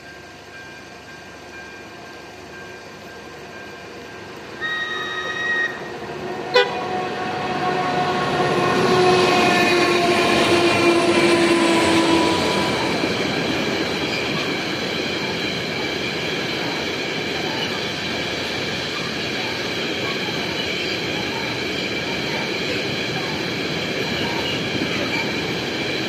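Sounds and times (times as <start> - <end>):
locomotive humming tone: 0.0 - 26.0.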